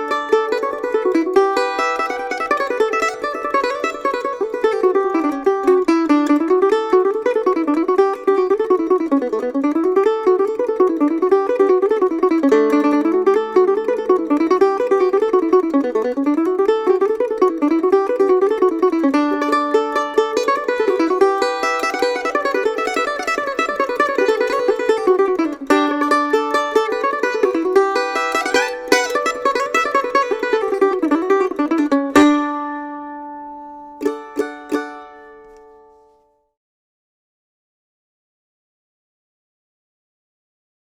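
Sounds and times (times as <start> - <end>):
flatpicked string riff: 0.0 - 36.3.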